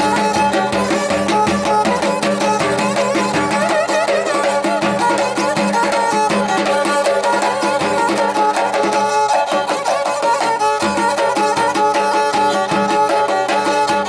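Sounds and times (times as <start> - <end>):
bowed fiddle melody: 0.0 - 14.0.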